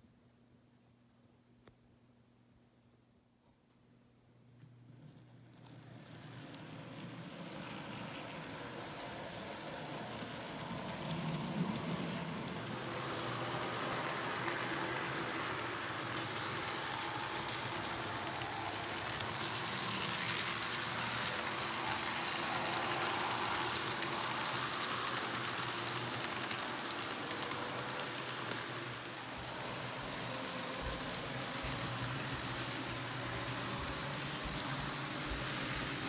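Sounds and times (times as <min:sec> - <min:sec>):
model train wheels rattling: 0:05.1 - 0:36.0.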